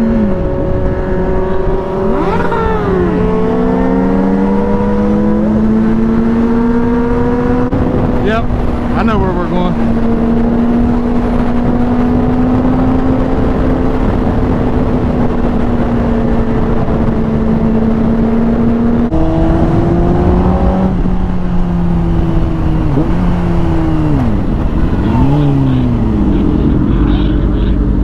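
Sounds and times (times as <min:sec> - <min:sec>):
motorcycle engine at high revs: 0:00.0 - 0:28.0
wind rushing over microphone: 0:00.0 - 0:28.0.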